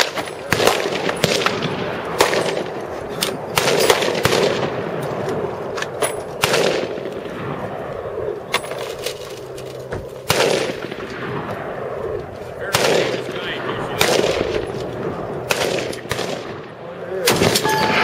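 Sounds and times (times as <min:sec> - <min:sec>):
gunshots with rolling echo: 0:00.0 - 0:09.0, 0:09.8 - 0:18.0.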